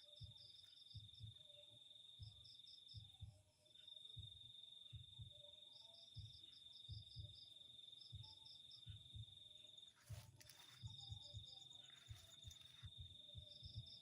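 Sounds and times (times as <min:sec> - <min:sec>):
cricket chirps: 0:00.0 - 0:14.0
insects trilling: 0:00.0 - 0:14.0
soft low thumps: 0:00.1 - 0:01.4, 0:02.2 - 0:03.6, 0:04.2 - 0:05.5, 0:06.1 - 0:09.4, 0:10.0 - 0:14.0.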